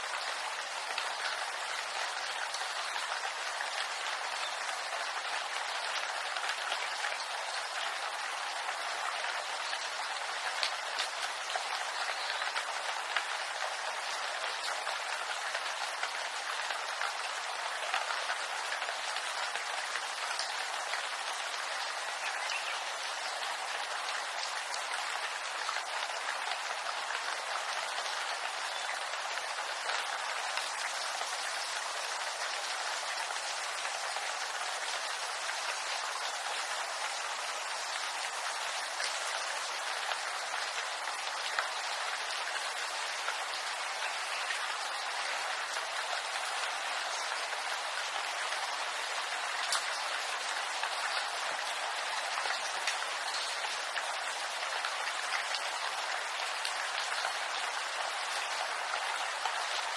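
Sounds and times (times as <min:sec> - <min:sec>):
rain pattering on leaves: 0:00.0 - 0:59.9.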